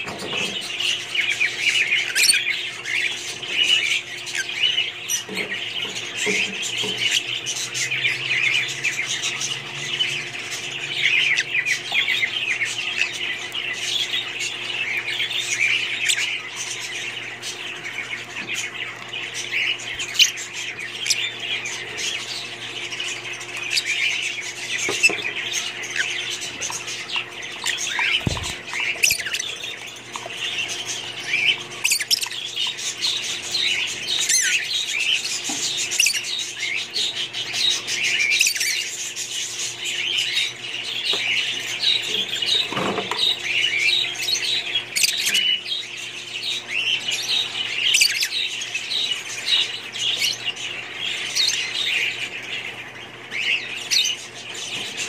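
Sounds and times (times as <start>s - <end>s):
lovebirds chirping and squawking: 0.0s - 55.0s.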